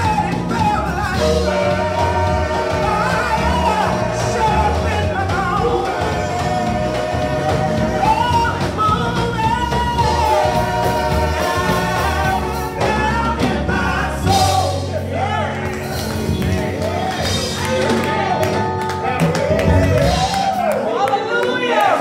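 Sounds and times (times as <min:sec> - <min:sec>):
bass line: 0:00.0 - 0:20.8
group singing gospel song: 0:00.0 - 0:22.0
instrumental accompaniment: 0:00.0 - 0:22.0.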